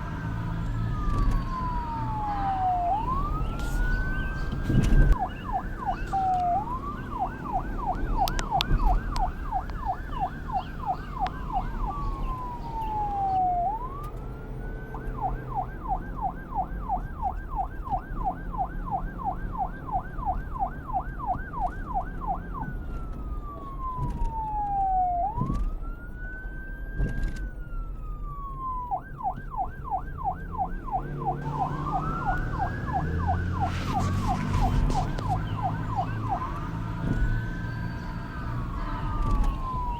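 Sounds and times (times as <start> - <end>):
police car siren wailing and yelping: 0.0 - 39.9.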